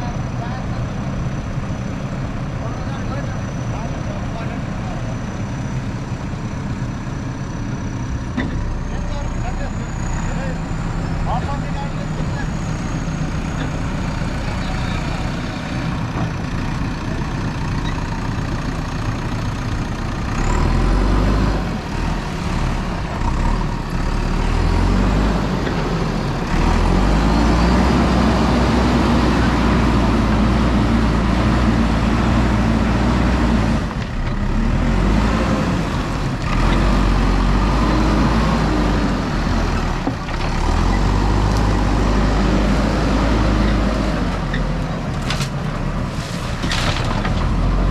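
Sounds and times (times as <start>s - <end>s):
diesel engine working: 0.0s - 47.9s.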